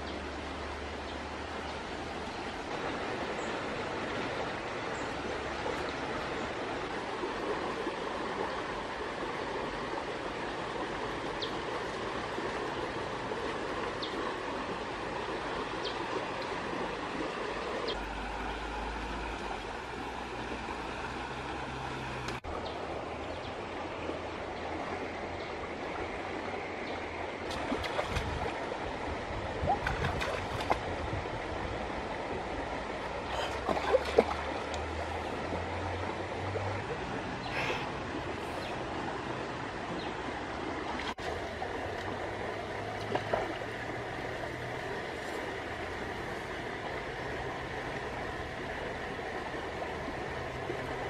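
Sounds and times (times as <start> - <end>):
running water: 0.0 - 51.0.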